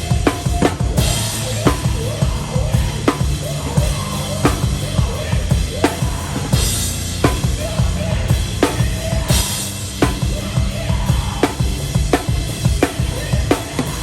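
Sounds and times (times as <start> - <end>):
fast bass drum kicks: 0.0 - 14.0
hardcore band playing live: 0.0 - 14.0.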